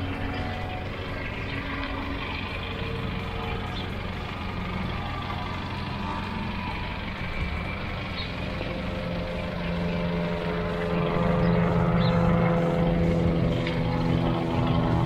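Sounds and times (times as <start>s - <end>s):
vehicle engine running slowly: 0.0s - 15.0s.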